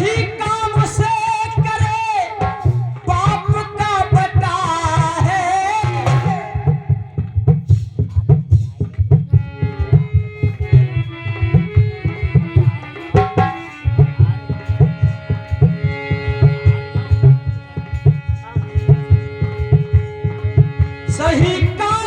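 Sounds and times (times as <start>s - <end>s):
sustained melody notes: 0.0s - 22.0s
tabla playing fast rhythm: 0.0s - 22.0s.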